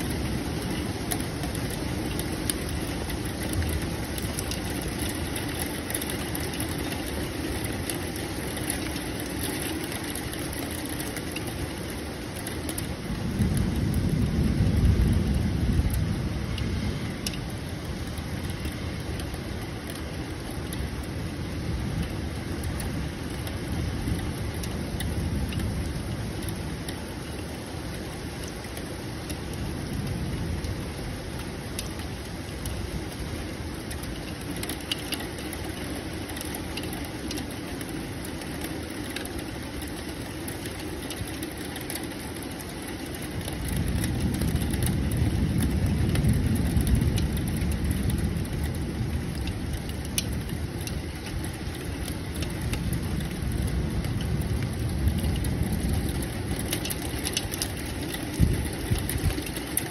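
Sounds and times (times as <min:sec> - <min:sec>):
thunder rumble: 0:00.0 - 0:28.2, 0:29.3 - 0:59.9
rain hiss: 0:00.0 - 0:59.9.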